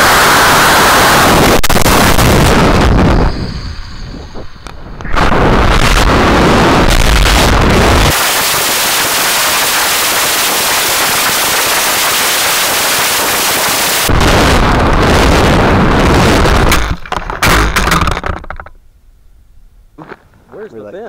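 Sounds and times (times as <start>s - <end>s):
wind rushing on microphone: 0.0s - 11.6s, 13.2s - 18.4s.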